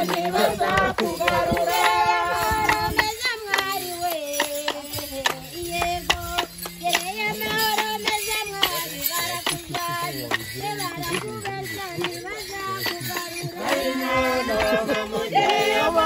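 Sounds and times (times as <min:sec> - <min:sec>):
group singing: 0:00.0 - 0:16.0
hand clapping: 0:00.0 - 0:16.0.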